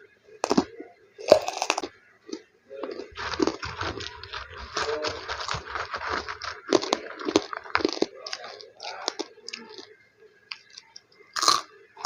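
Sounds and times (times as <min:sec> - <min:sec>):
crunching and chewing crispy snack: 0:00.4 - 0:12.0.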